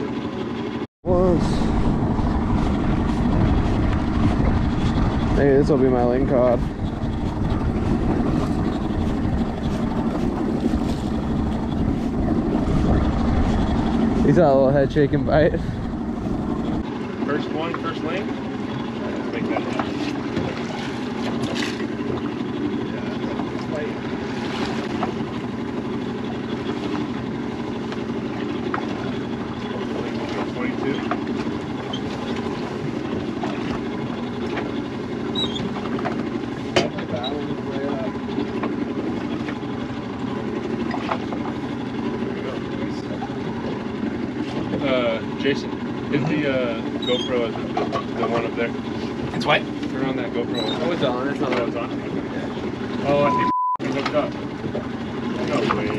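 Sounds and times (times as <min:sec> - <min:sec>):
boat low rumble: 0:00.0 - 0:55.9
outboard motor humming: 0:00.0 - 0:55.9
water noise: 0:00.0 - 0:55.9
wind: 0:00.0 - 0:55.9.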